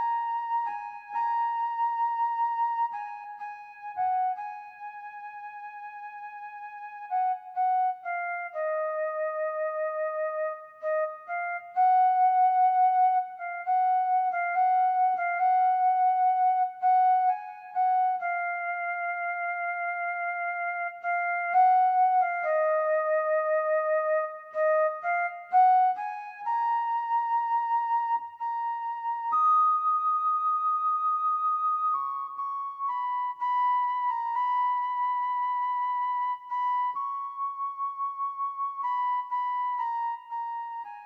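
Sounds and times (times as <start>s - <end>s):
solo flute-like melody: 0.0s - 41.0s.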